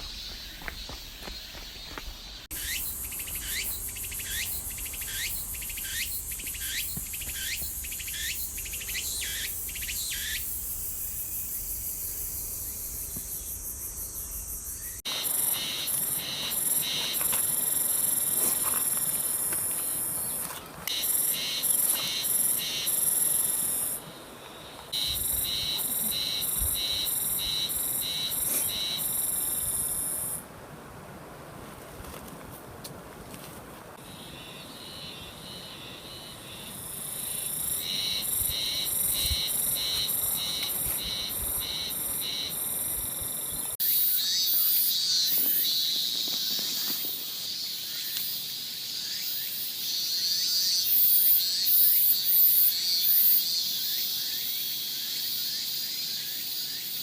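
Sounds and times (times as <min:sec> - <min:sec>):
cicadas buzzing: 0:00.0 - 0:30.4, 0:34.0 - 0:57.0
pulsing cicada song: 0:00.0 - 0:30.4, 0:34.0 - 0:57.0.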